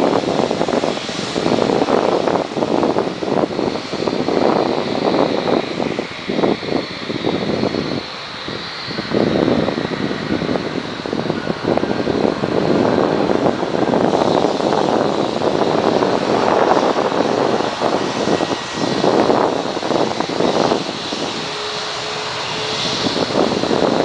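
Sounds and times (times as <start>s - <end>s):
high whine: 0.0s - 24.0s
jet engine roar: 0.0s - 24.0s.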